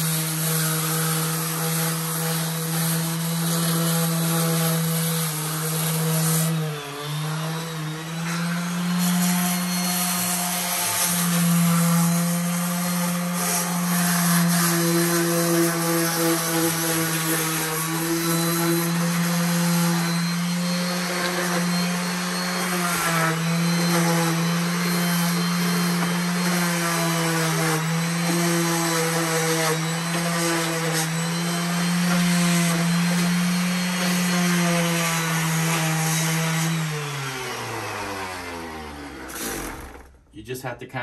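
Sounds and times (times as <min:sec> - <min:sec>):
electric sander on concrete: 0:00.0 - 0:40.2.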